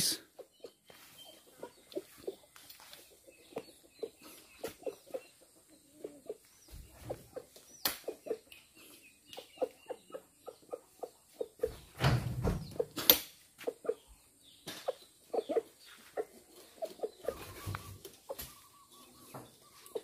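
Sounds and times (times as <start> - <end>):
chicken clucking: 0.0 - 11.9, 12.6 - 20.0.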